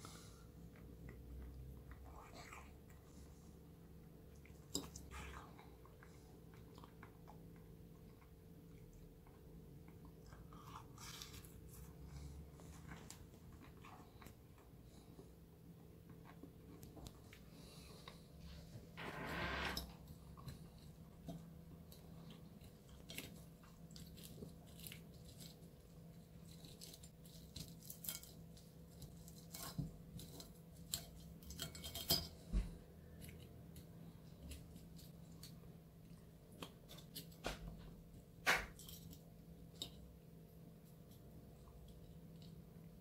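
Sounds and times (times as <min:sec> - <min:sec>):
faint low hum: 0:00.0 - 0:43.0.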